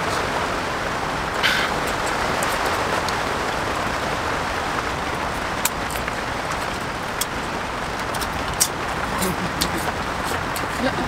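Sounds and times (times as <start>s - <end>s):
rain on a canvas tent: 0.0s - 11.0s.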